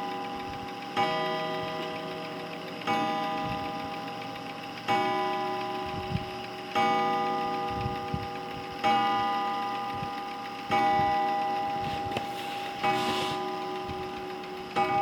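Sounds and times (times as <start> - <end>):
mantel clock striking gong: 0.0 - 15.0.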